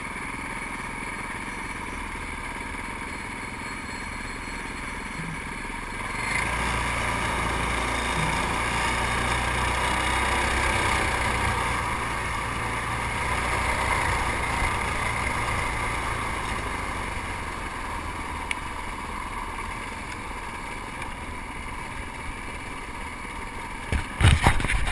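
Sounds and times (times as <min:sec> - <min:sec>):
kart engine running: 0:00.0 - 0:24.9.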